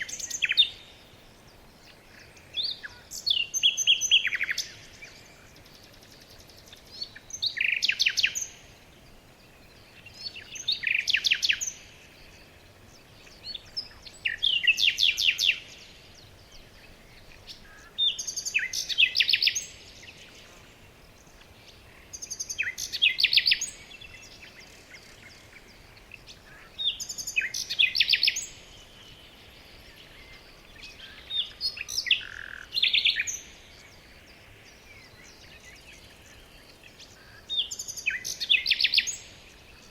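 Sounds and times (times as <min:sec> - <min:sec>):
songbird trilling: 0:01.8 - 0:20.2, 0:21.1 - 0:34.0, 0:34.7 - 0:39.9.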